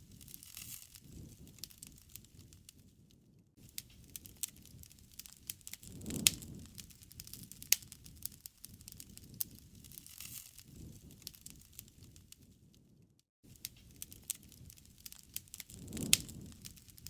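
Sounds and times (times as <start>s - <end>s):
bonfire crackling and popping: 0.0s - 17.0s
low rush of flames: 0.0s - 17.0s.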